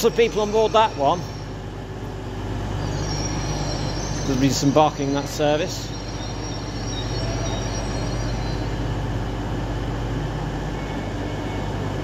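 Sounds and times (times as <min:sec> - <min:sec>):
faint high whine: 0:00.0 - 0:12.0
rail and platform noise: 0:00.0 - 0:12.0
train engine low hum: 0:00.0 - 0:12.0.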